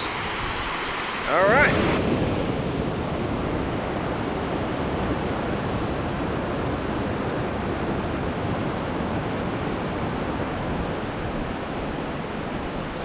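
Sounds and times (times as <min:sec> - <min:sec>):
rushing waterfall: 0:00.0 - 0:13.0.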